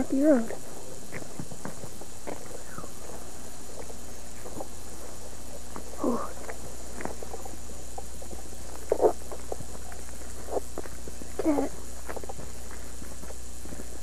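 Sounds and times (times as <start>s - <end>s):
footsteps in grass: 0.0s - 14.0s
tape hum and hiss: 0.0s - 14.0s.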